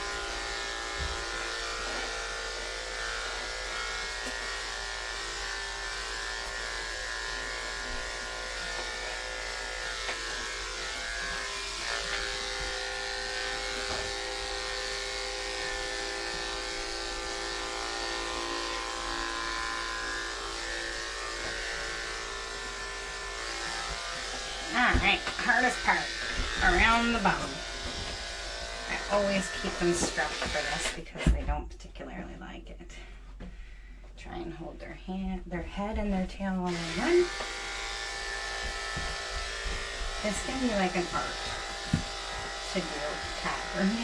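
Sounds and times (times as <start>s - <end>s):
electric pet clippers buzzing: 0.0s - 31.4s, 36.5s - 44.0s.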